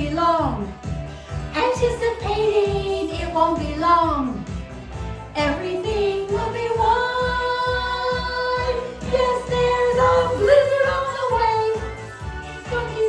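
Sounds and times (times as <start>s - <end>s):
backing track with steady beat: 0.0s - 13.0s.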